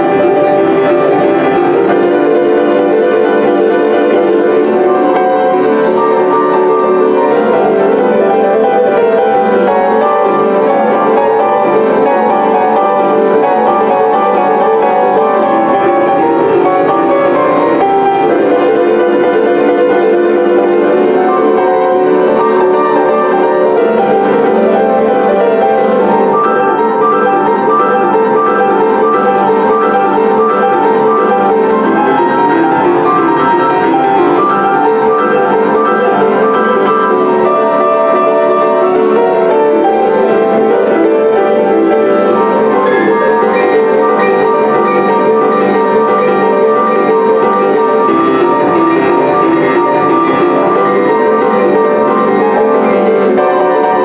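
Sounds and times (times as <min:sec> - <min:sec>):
grand piano playing boogie-woogie: 0:00.0 - 0:54.0.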